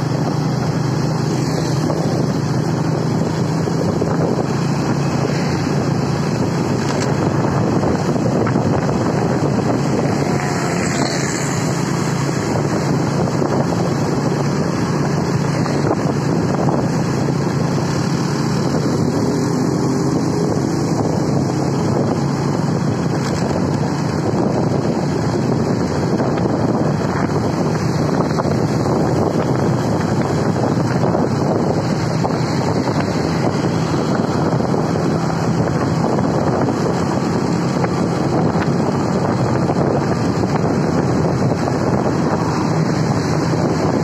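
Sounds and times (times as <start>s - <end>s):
wind noise on microphone: 0.0s - 44.0s.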